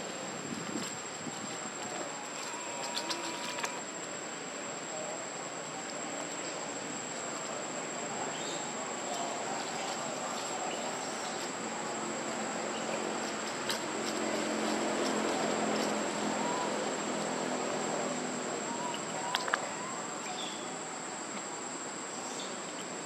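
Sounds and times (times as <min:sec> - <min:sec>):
background hiss: 0:00.0 - 0:23.0.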